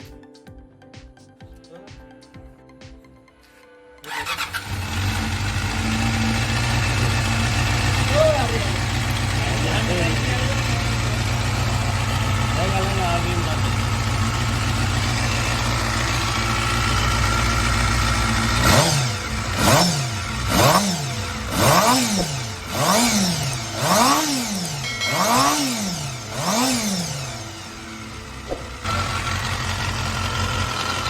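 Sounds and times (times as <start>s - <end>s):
motorcycle engine idling and revving: 4.1s - 31.0s.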